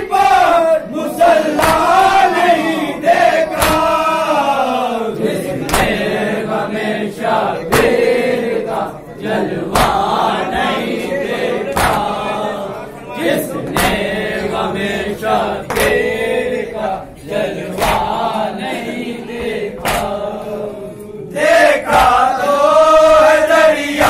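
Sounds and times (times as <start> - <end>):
men chanting in unison: 0.0 - 24.0.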